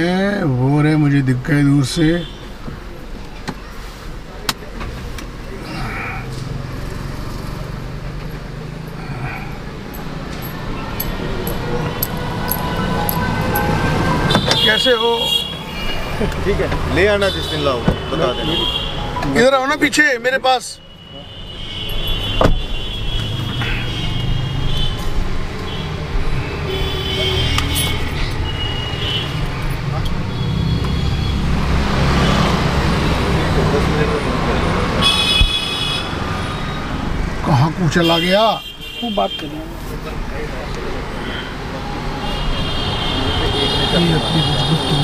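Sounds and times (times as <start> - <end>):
street traffic: 0.0 - 45.0.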